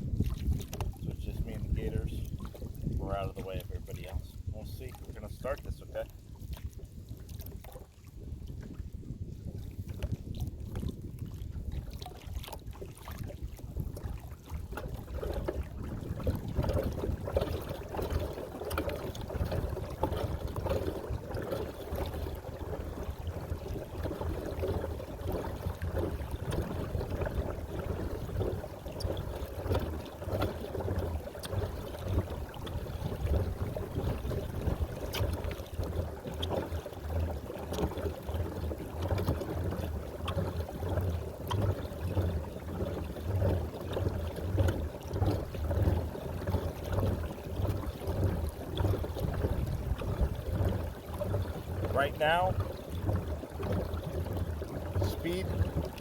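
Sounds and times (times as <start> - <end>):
water washing along kayak hull: 0.0 - 56.0
wind rumbling on microphone: 0.0 - 56.0.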